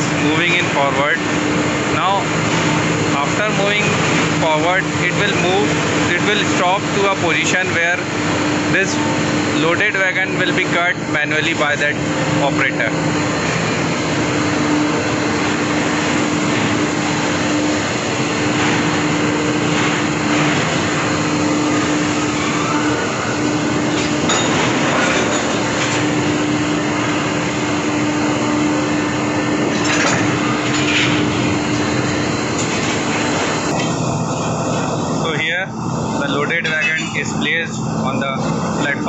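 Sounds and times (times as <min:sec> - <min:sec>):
machinery hum: 0:00.0 - 0:39.0.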